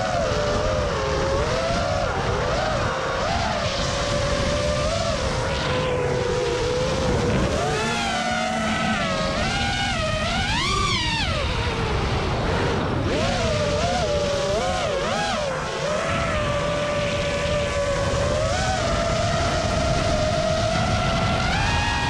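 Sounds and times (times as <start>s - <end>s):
quadcopter motors whining: 0.0s - 22.0s
wind rushing on microphone: 0.0s - 22.0s.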